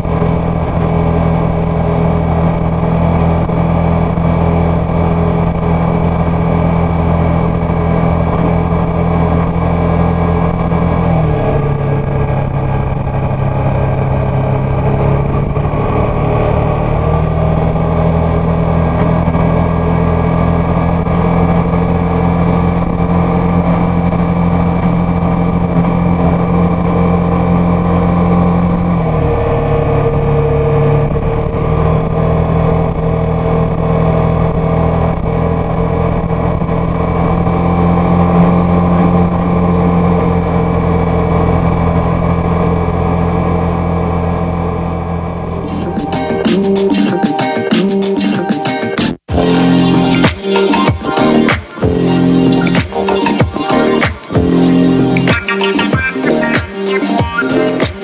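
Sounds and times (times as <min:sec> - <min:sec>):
scooter engine running: 0:00.0 - 0:47.8, 0:49.1 - 0:58.0.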